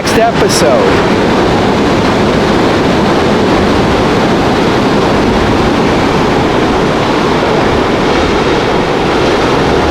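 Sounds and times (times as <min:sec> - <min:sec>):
loud rushing noise: 0:00.0 - 0:09.9.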